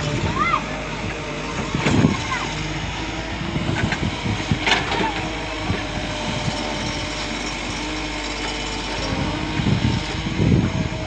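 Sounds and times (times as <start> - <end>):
motor running steadily: 0.0 - 11.0.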